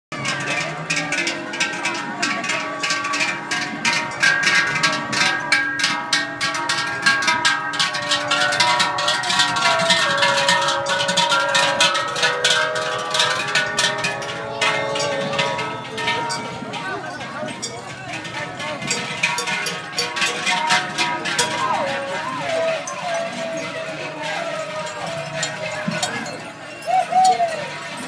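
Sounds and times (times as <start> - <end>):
cowbells clanging: 0.1 - 28.0.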